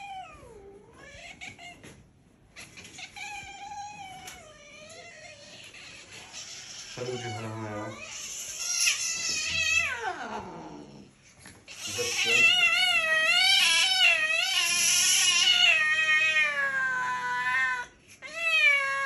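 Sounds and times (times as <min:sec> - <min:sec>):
cat yowling: 0:02.6 - 0:11.0, 0:11.7 - 0:19.0.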